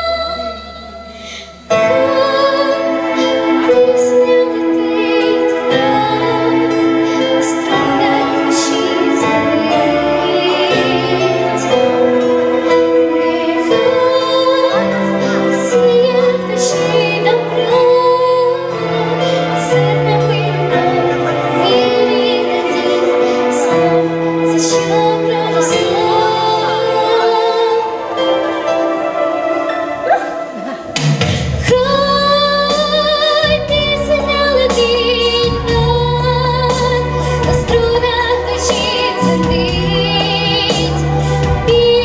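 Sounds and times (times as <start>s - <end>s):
girl singing into microphone: 0.0s - 28.5s, 29.8s - 42.0s.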